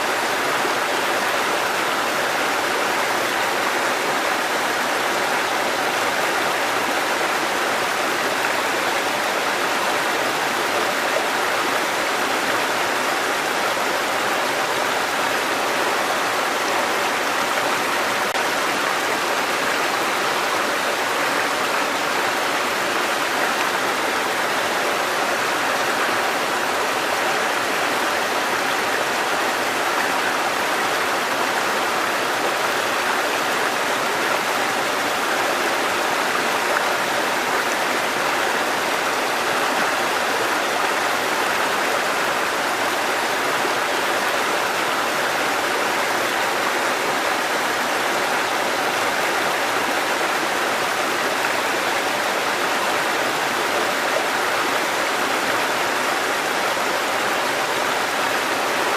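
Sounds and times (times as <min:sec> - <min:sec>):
stream water rushing over rocks: 0:00.0 - 0:58.9.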